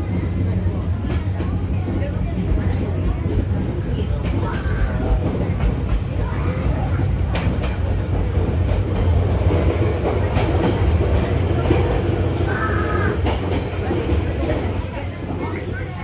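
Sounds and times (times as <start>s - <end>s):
track clacks: 0.0s - 16.0s
train rumbling on rails: 0.0s - 16.0s.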